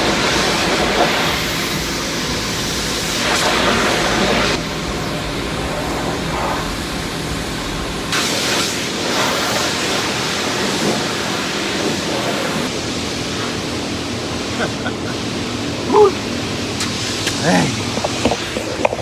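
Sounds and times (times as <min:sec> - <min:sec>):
pressure wand spraying water: 0:00.0 - 0:19.0.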